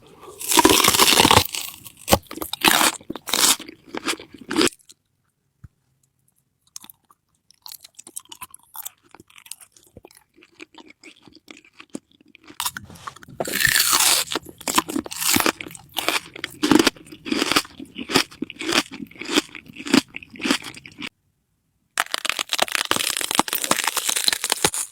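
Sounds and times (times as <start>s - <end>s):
crunching and chewing: 0.0s - 5.1s, 6.2s - 21.1s, 22.0s - 24.9s.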